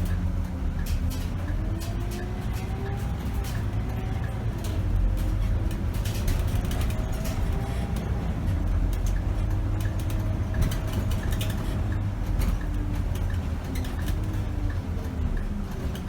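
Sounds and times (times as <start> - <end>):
bus diesel engine rumble: 0.0 - 16.0.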